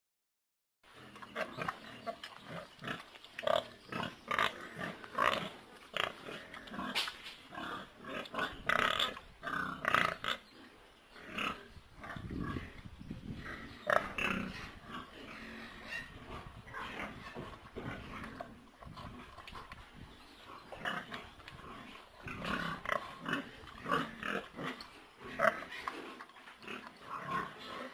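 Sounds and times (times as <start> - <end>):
pigs calling: 0.9 - 27.9.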